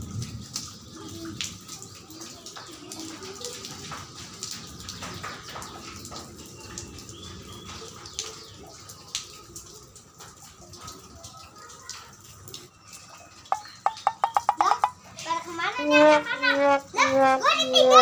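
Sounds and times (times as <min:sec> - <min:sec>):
rain water splashing and dripping: 0:00.0 - 0:18.0.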